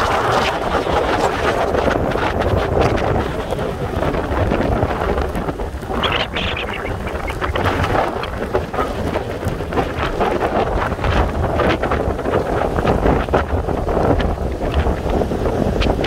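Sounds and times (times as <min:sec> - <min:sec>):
heavy surf breaking: 0:00.0 - 0:16.0
strong wind buffeting microphone: 0:00.0 - 0:16.0.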